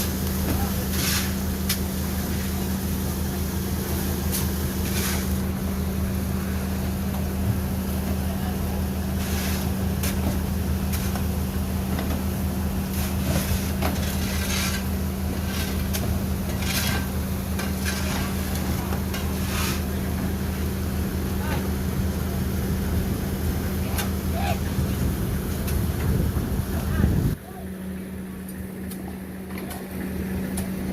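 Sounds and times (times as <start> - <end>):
boat engine droning: 0.0 - 30.9.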